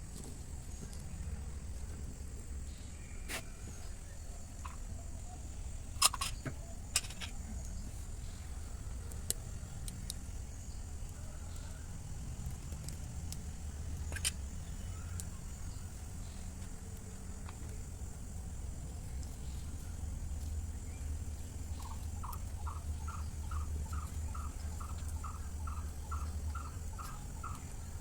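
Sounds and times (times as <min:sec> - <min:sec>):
faint high-pitched whine: 0:00.0 - 0:28.0
steady low rumble: 0:00.0 - 0:28.0.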